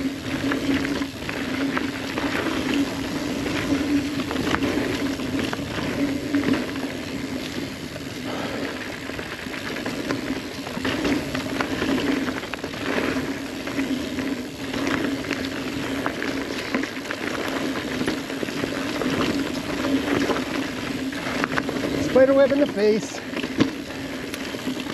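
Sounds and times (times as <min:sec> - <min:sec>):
bike rattling over bumps: 0:00.0 - 0:24.9
bike tyres rolling on dirt: 0:00.0 - 0:24.9.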